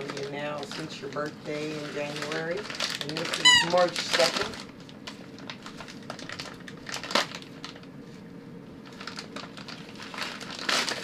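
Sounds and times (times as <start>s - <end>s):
wrapping paper rustling and tearing: 0.0s - 8.2s, 8.8s - 11.0s.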